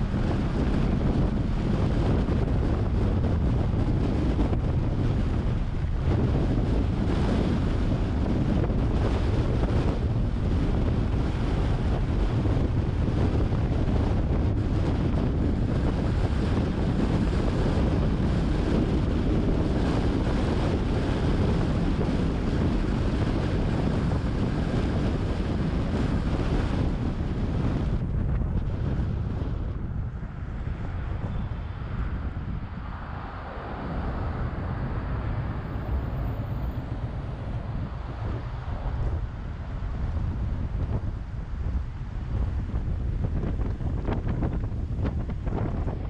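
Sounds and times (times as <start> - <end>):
road noise: 0.0 - 46.0
wind buffeting microphone: 0.0 - 46.0.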